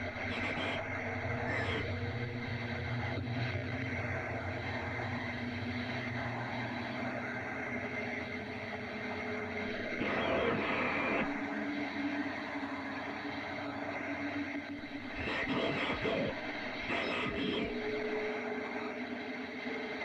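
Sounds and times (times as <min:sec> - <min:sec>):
low sci-fi drone tones: 0:00.0 - 0:20.0.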